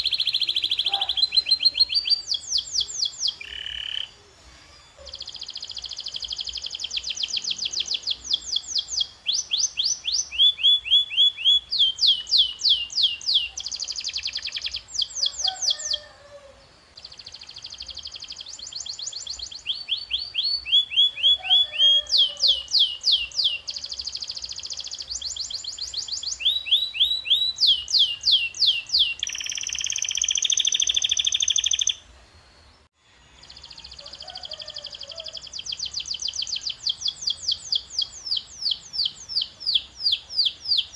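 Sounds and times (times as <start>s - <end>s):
canary singing: 0.0s - 32.0s, 33.4s - 40.9s.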